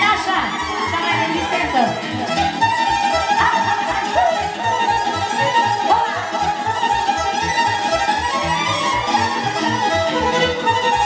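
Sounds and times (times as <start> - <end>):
dance band music: 0.0 - 11.0.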